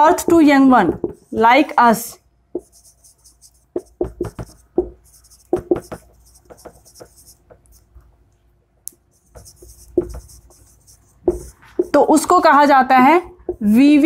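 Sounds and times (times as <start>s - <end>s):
marker pen writing on whiteboard: 0.0s - 1.8s, 2.5s - 8.2s, 9.0s - 12.4s, 13.3s - 14.0s.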